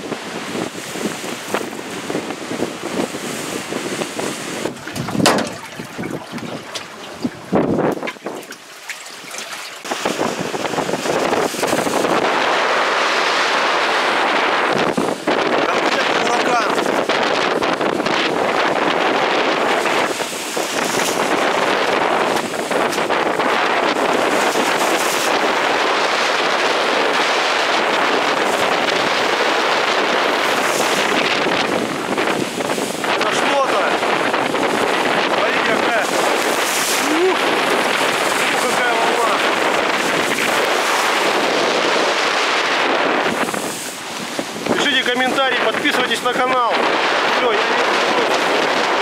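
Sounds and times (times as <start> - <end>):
waves breaking on rocks: 0.0 - 49.0
wind buffeting microphone: 0.0 - 49.0.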